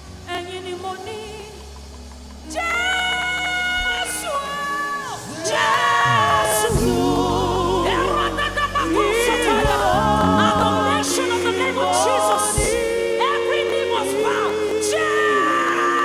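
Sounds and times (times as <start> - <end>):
gospel singing with vibrato: 0.0 - 16.0
low musical accompaniment: 0.0 - 16.0.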